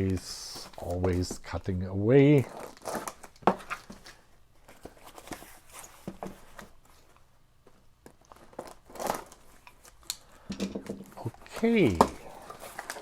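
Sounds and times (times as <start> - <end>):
cardboard parcel being opened: 0.0 - 10.1, 10.9 - 13.0.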